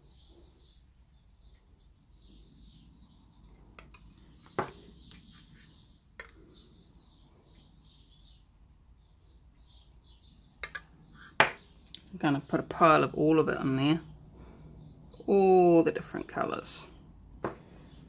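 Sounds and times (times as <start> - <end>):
faint birdsong chirping: 0.0 - 18.0.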